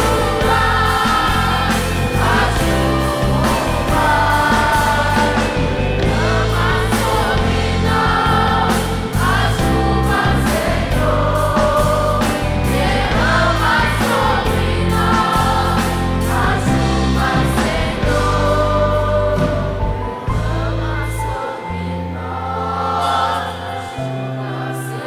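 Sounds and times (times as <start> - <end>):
low sustained bass notes: 0.0 - 23.1
choir singing gospel song: 0.0 - 25.0.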